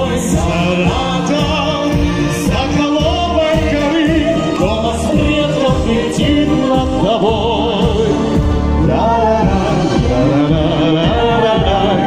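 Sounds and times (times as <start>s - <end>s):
orchestra playing: 0.0s - 12.0s.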